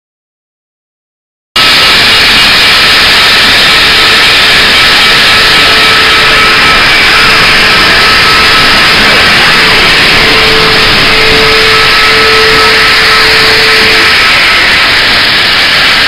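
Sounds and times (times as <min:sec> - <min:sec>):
steam train running: 0:01.6 - 0:16.0.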